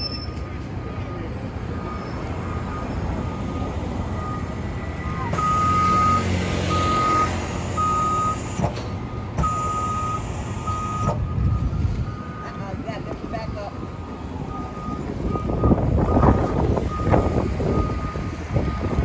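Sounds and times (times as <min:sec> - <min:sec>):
vehicle warning beeper: 0:00.0 - 0:08.6, 0:09.3 - 0:19.0
diesel engine running low: 0:00.0 - 0:19.0.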